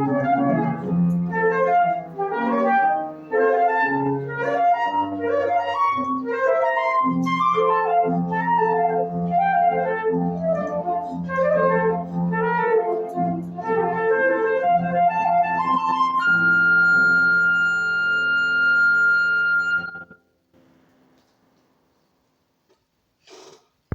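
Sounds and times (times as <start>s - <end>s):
flute playing slow melody: 0.0s - 20.2s
piano accompaniment: 0.0s - 20.2s.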